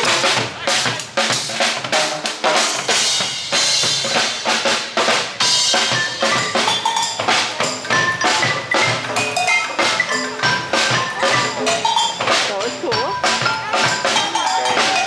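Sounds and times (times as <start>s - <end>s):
drum kit and percussion beat: 0.0s - 15.0s.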